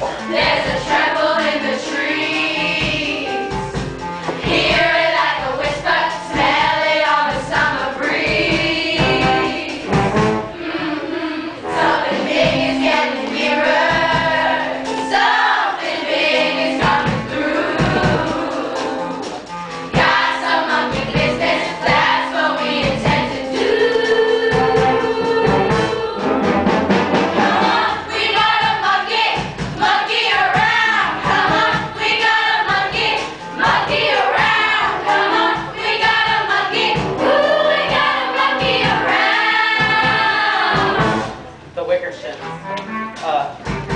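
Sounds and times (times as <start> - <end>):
young voices singing in chorus: 0.0 - 3.6, 4.2 - 41.6
music with steady beat: 0.0 - 11.1, 11.7 - 43.9.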